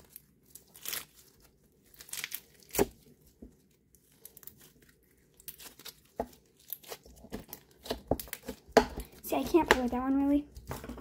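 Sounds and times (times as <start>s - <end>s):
slime popping and crackling: 0.0s - 10.7s.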